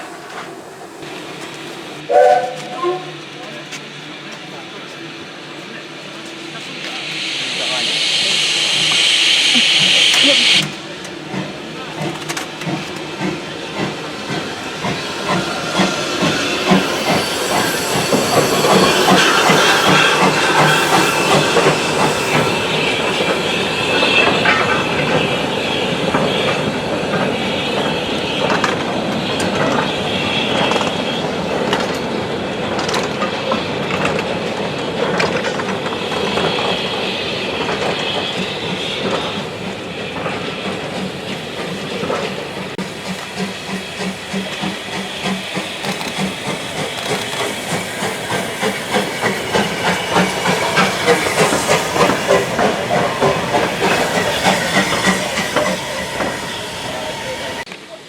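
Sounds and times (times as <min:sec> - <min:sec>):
rail clicks: 0:00.0 - 0:58.0
train wheels rumbling on rail: 0:00.0 - 0:58.0.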